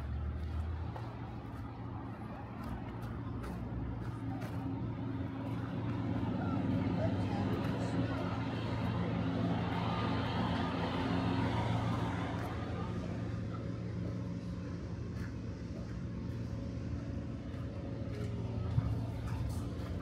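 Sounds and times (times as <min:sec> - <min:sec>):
road traffic rumbling: 0:00.0 - 0:20.0
vehicle passing by: 0:00.0 - 0:20.0.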